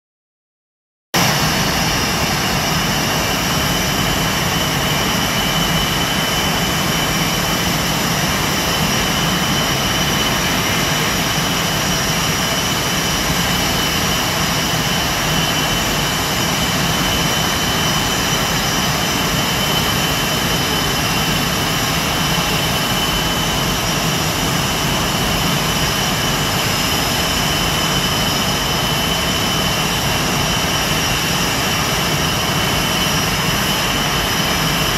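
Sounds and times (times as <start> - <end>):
high whine: 1.2 - 34.9
jet engines idling: 1.2 - 34.9.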